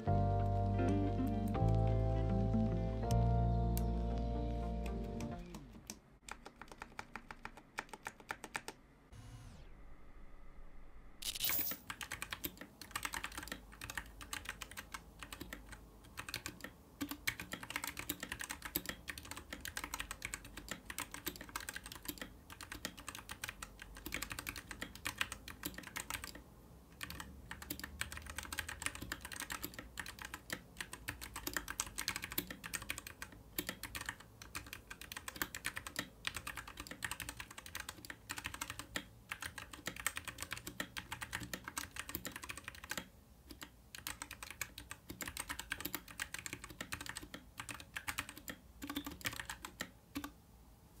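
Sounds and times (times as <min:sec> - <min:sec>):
mechanical keyboard typing: 0:03.0 - 0:08.8, 0:11.2 - 0:50.4.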